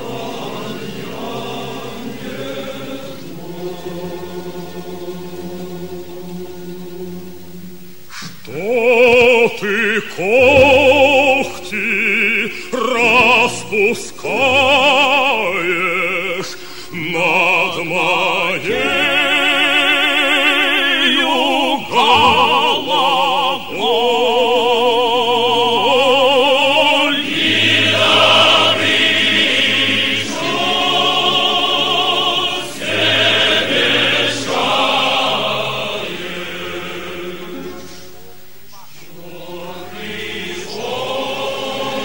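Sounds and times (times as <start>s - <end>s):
operatic singing voice: 0.0s - 7.6s, 8.3s - 38.2s, 39.0s - 42.0s.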